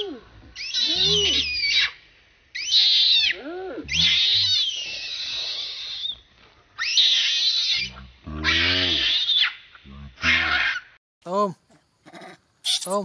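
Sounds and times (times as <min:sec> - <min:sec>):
baby monkey screaming: 0:00.6 - 0:06.2, 0:06.8 - 0:11.0, 0:12.0 - 0:13.0.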